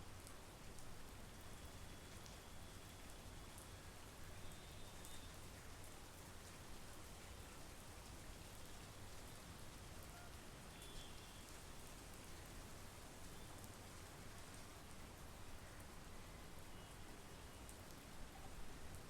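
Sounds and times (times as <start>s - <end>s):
faint rain falling: 0.0s - 19.0s
small raindrop ticks: 0.1s - 16.0s, 16.8s - 19.0s.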